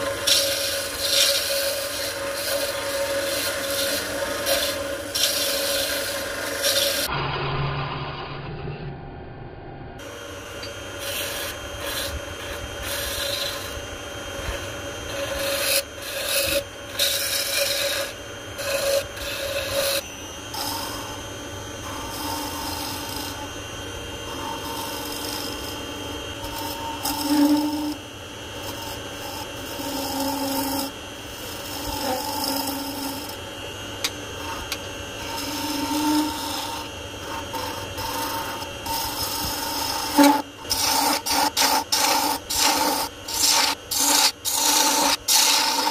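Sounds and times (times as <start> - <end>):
gouge scraping spinning wood: 0.0 - 7.1, 10.0 - 45.9
faint lathe hum: 0.0 - 45.9.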